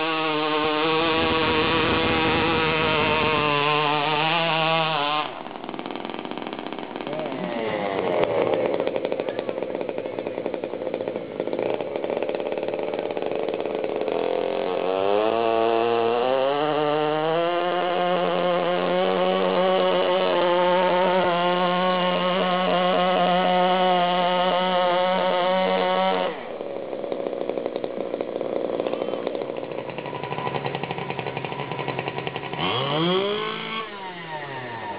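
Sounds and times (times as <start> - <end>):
small engine revving: 0.0 - 34.9.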